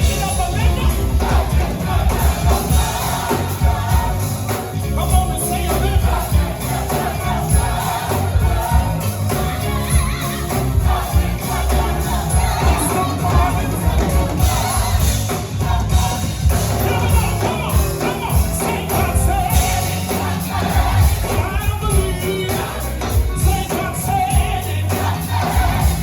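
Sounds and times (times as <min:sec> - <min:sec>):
band with heavy bass and drums: 0:00.0 - 0:26.0
gospel choir singing: 0:00.0 - 0:26.0.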